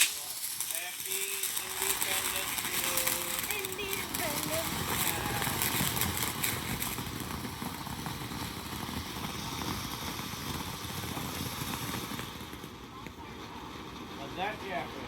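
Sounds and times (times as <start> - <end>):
firework rushing hiss: 0.0 - 15.0
sharp crackles: 0.0 - 15.0.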